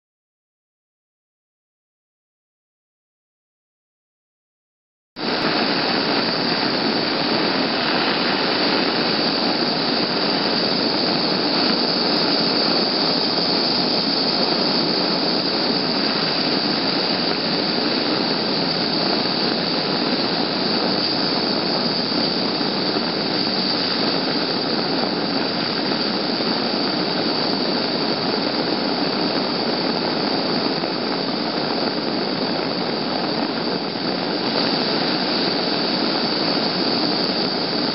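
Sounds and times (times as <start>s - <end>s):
blowtorch flame hissing: 5.2s - 37.9s.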